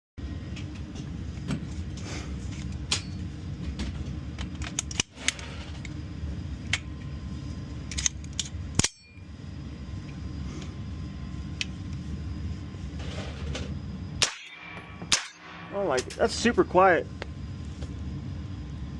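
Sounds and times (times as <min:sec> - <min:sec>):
low background rumble: 0:00.2 - 0:18.9.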